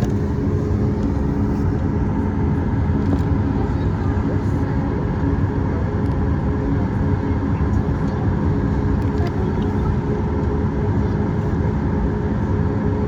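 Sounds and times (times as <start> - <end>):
jet engines rumbling: 0.0 - 13.0
steady humming tones: 0.0 - 13.0.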